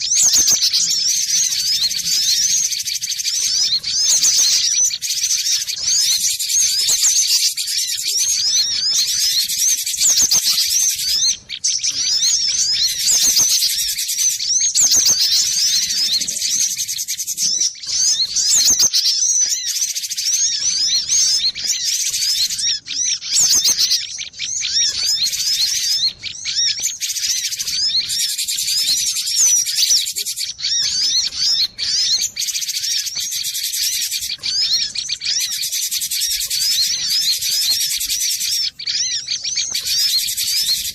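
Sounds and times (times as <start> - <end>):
bird chirping and twittering: 0.0 - 40.9.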